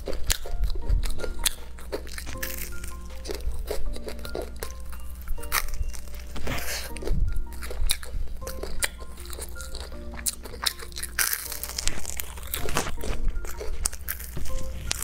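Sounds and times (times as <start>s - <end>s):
background music: 0.0s - 15.0s
person chewing and crunching food: 0.0s - 15.0s.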